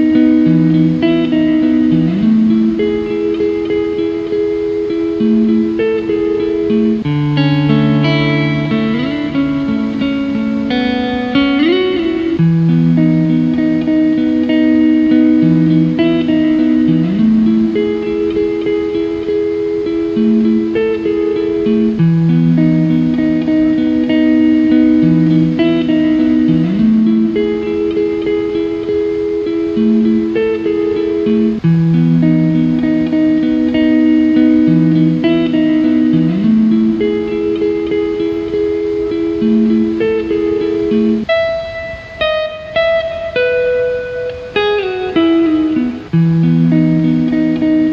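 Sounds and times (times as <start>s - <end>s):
slow calm instrumental music: 0.0s - 47.9s.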